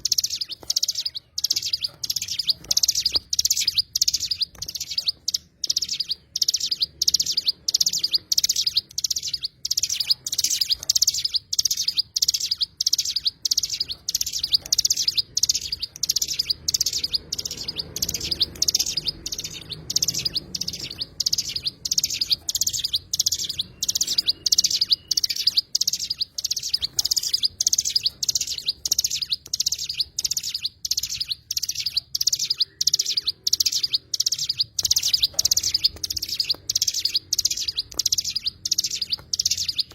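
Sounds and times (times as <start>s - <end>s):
songbird chirping short high calls: 0.0s - 39.9s.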